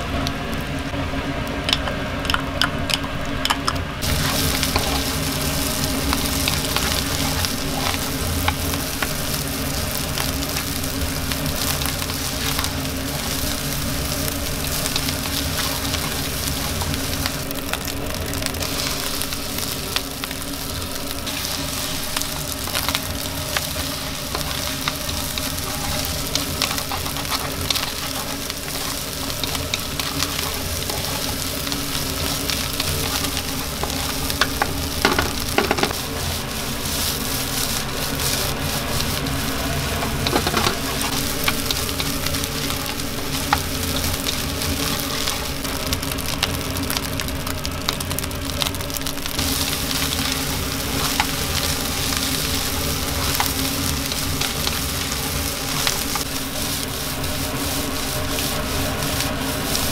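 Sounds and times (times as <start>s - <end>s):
stirring clicks and scrapes: 1.7s - 59.9s
rice sizzling in a pan: 4.0s - 59.9s.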